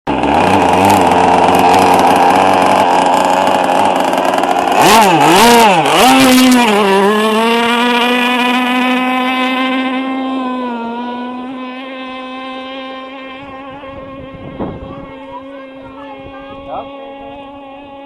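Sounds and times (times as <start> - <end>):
model boat motor buzzing: 0.1 - 18.0.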